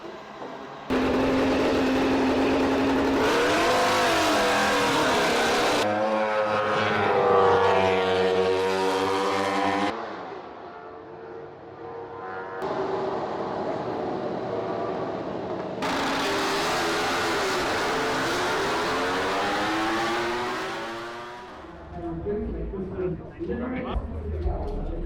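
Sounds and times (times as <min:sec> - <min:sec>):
racing motorcycle engine revving: 0:00.9 - 0:22.0.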